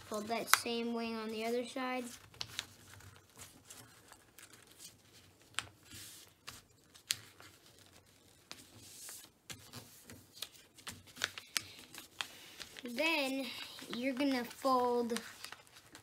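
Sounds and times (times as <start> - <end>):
paper rustling and sliding: 0.0 - 16.0
paper fold clicks: 2.0 - 16.0.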